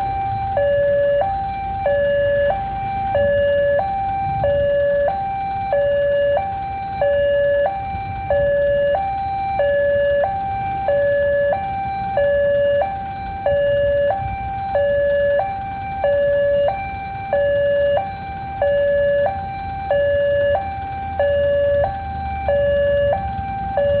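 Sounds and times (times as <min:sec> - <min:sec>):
two-tone warning siren: 0:00.0 - 0:24.0.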